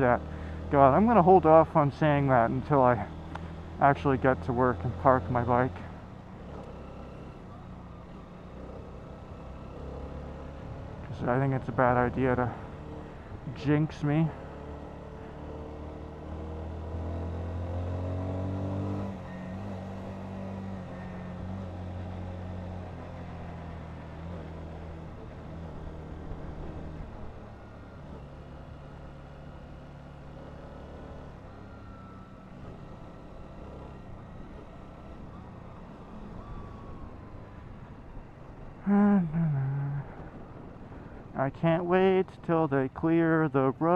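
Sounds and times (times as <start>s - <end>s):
motorcycle engine revving: 0.0s - 13.5s, 14.1s - 37.0s.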